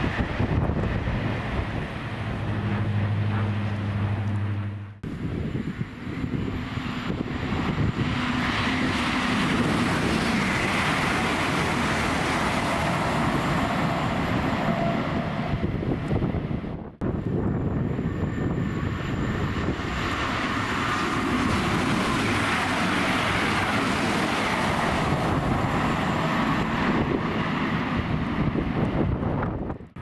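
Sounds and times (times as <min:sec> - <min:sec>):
electric train passing: 0:00.0 - 0:30.0
train low steady hum: 0:00.0 - 0:30.0.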